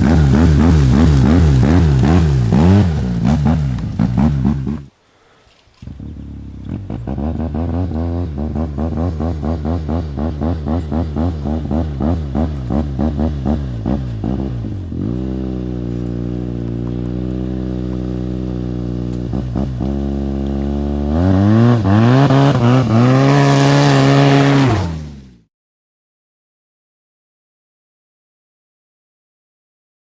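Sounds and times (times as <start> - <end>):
snowmobile engine revving: 0.0 - 5.0, 5.8 - 25.5.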